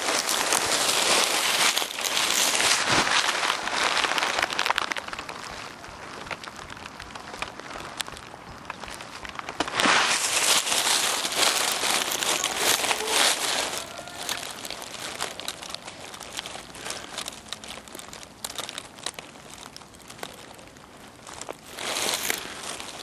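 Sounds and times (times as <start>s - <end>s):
close rustling and crackling: 0.0s - 23.0s.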